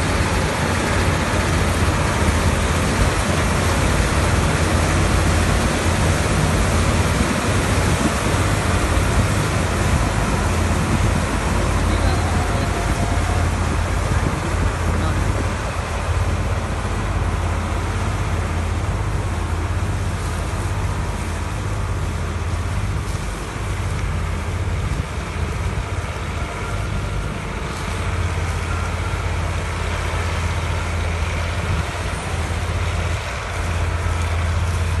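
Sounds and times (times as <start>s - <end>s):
combine harvester engine drone: 0.0s - 35.0s.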